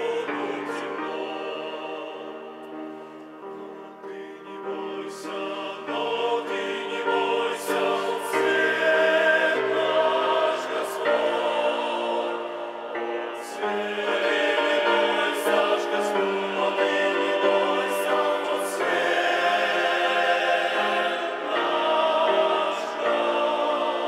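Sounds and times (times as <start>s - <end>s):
men's choir singing a hymn: 0.0s - 24.0s.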